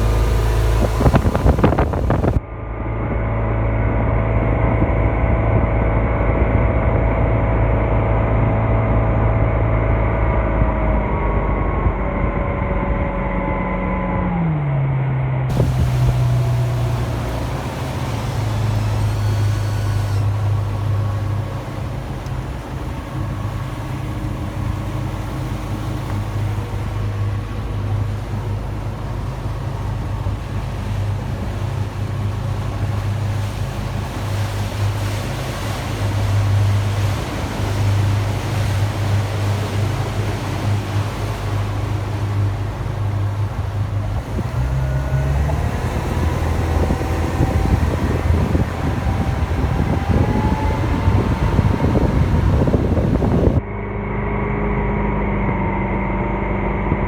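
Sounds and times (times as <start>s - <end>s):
rush of wind and water: 0.0s - 14.7s, 15.5s - 53.8s
motorboat engine drone: 0.0s - 57.0s.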